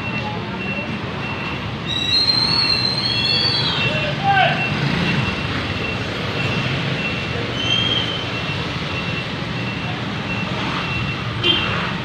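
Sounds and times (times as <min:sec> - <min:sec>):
motorcycle engines passing: 0:00.2 - 0:12.0.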